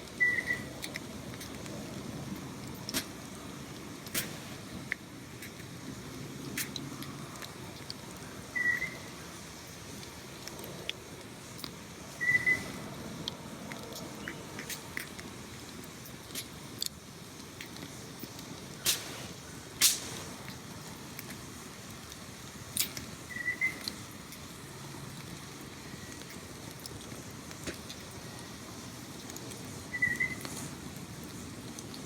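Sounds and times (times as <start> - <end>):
constant hiss: 0.0 - 32.0.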